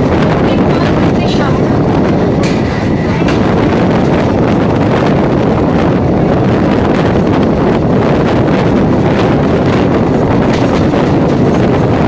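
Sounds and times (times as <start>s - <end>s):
electric train running: 0.0s - 12.0s
wind buffeting microphone: 0.0s - 12.0s.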